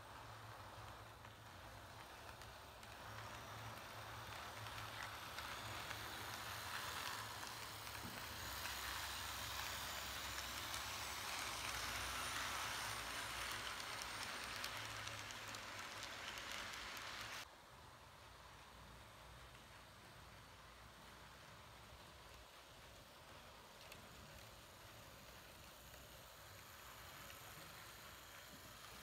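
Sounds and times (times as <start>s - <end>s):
model train whirring: 0.0s - 29.0s.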